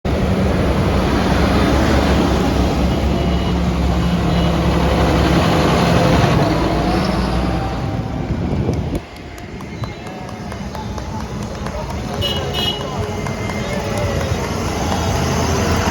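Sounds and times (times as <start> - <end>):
tractor engines running: 0.1 - 15.9.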